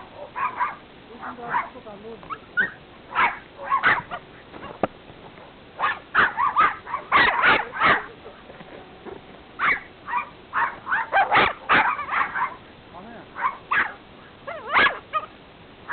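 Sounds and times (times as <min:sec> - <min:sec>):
dog barking and yipping: 0:00.0 - 0:04.9, 0:05.8 - 0:08.2, 0:09.6 - 0:12.7, 0:13.4 - 0:15.9.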